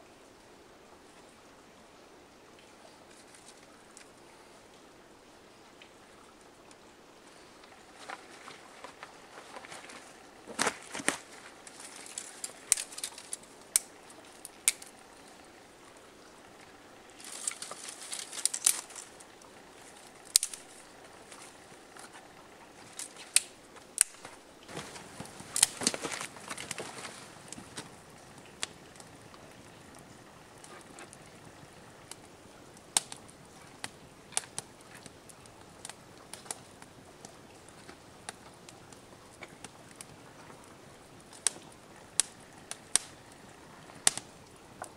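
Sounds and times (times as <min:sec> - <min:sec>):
faint hiss: 0:00.0 - 0:44.9
fire crackling and popping: 0:05.8 - 0:44.9.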